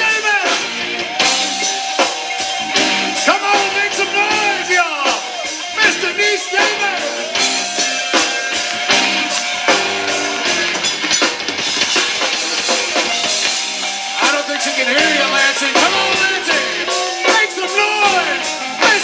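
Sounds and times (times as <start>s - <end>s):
drum kit: 0.0s - 19.0s
live band playing: 0.0s - 19.0s.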